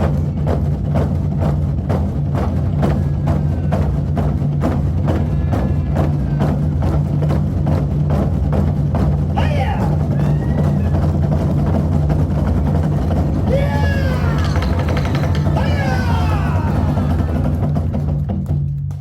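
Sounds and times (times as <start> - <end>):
drums struck in unison: 0.0 - 19.0.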